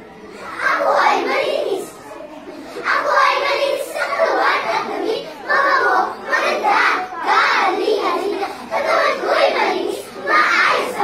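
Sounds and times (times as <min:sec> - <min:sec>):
children reciting in unison: 0:00.0 - 0:11.0.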